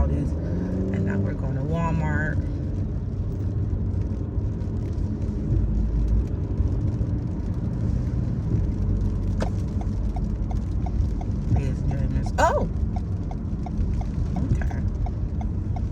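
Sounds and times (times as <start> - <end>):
car engine and road rumble: 0.0 - 15.9.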